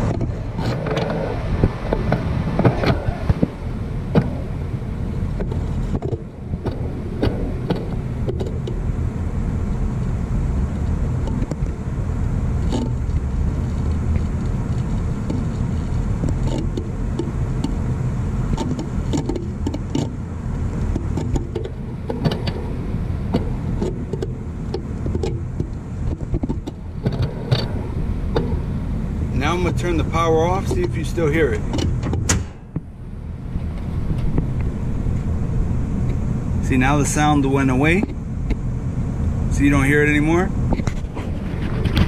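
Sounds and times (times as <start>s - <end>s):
compressor crackling and snapping: 0.0s - 42.0s
low rumble: 0.0s - 42.0s.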